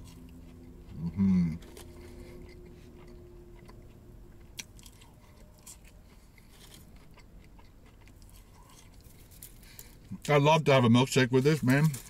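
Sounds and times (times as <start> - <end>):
faint chewing: 0.0 - 10.3
mouth crunches and clicks: 0.0 - 10.3.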